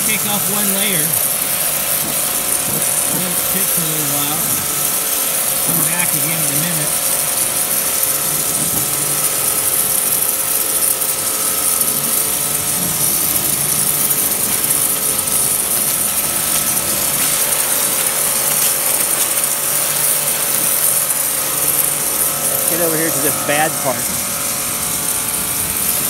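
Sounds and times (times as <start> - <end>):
pressure washer pump: 0.0 - 26.0
water jet hissing: 0.0 - 26.0.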